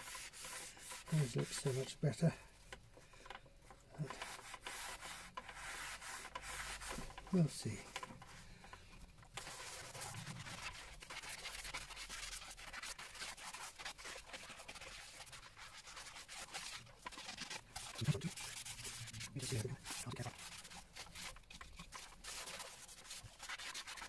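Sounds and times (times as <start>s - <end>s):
scouring pad scrubbing slate: 0.0s - 2.3s, 4.0s - 8.3s, 9.4s - 24.0s.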